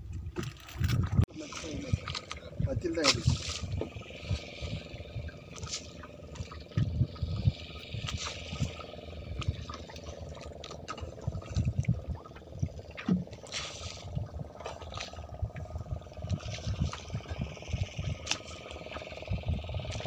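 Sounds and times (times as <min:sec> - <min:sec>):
water lapping at hull: 0:00.0 - 0:20.0
wind buffeting microphone: 0:00.0 - 0:20.0
faint steady hum: 0:01.0 - 0:20.0.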